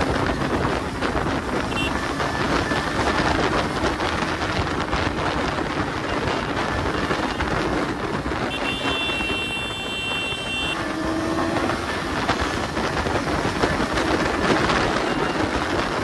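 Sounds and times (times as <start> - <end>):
motorcycle engine: 0.0 - 16.0
wind rush on microphone: 0.0 - 16.0.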